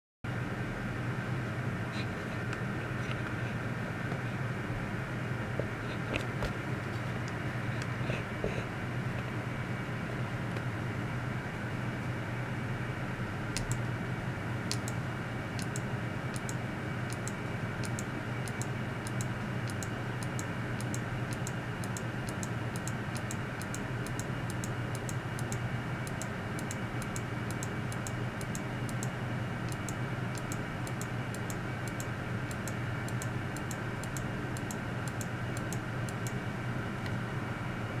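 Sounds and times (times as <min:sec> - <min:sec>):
steady low hum: 0:00.3 - 0:38.0.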